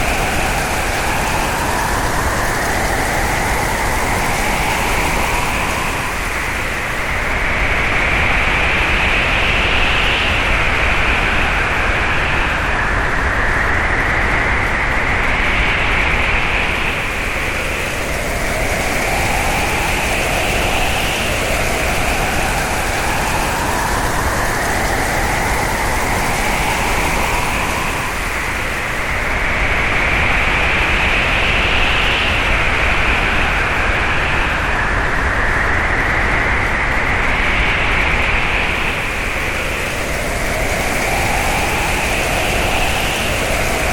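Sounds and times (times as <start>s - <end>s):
hurricane wind blowing hard: 0.0s - 43.9s.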